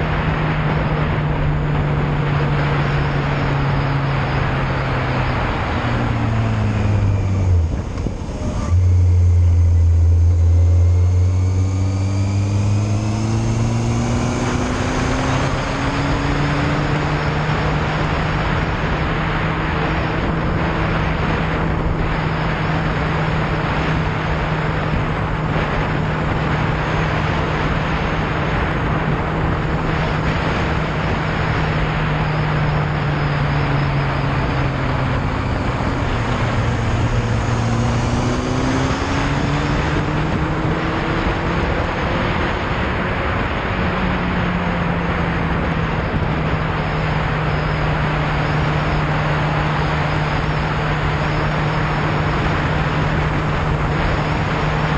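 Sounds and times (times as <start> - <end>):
motorcycle engine: 0.0 - 54.9
wind rushing over camera: 0.0 - 54.9.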